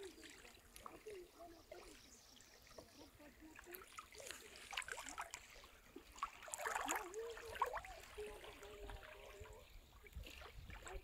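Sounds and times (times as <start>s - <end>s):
small splashes and clicks: 0.0s - 2.0s, 2.7s - 11.0s
seawater lapping and trickling: 0.0s - 11.0s.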